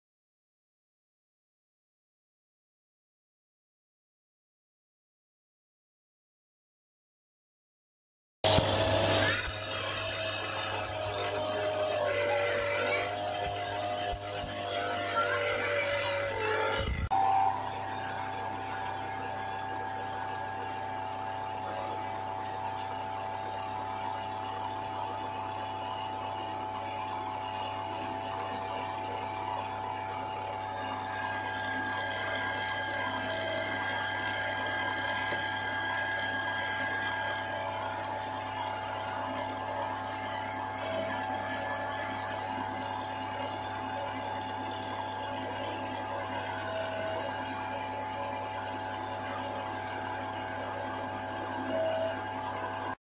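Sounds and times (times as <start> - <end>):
mixer grinder churning batter: 8.4 - 53.0.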